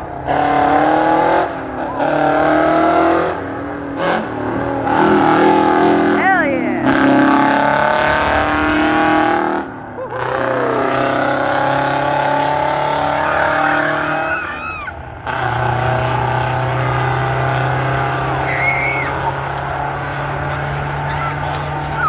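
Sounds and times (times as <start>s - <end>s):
race truck engines running: 0.0s - 22.0s.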